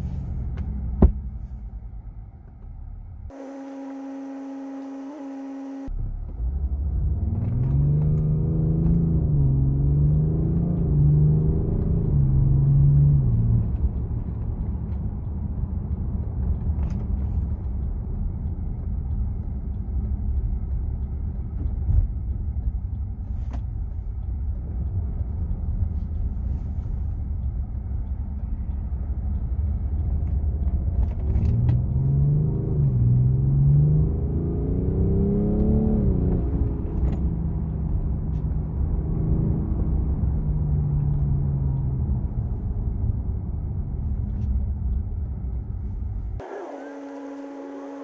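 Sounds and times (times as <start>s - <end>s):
diesel car engine rumbling: 0.0s - 48.0s.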